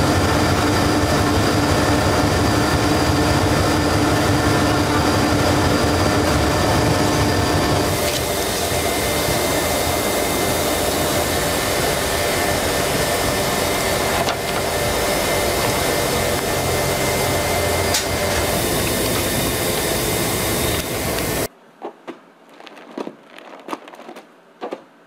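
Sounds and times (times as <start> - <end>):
low machinery hum: 0.0 - 21.5
machinery hissing: 0.0 - 21.5.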